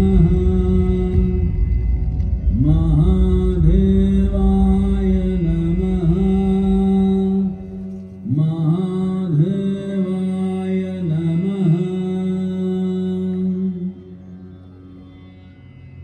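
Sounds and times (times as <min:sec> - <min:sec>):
person chanting: 0:00.0 - 0:14.5
background music: 0:00.0 - 0:16.0.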